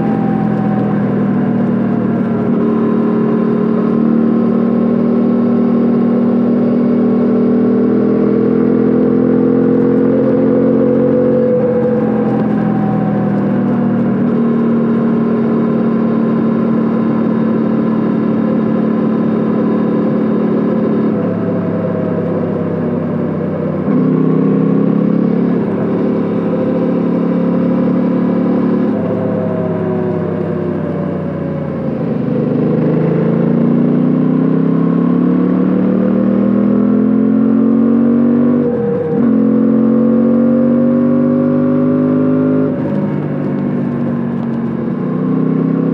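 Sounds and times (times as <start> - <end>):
motorcycle engine and exhaust: 0.0 - 45.9.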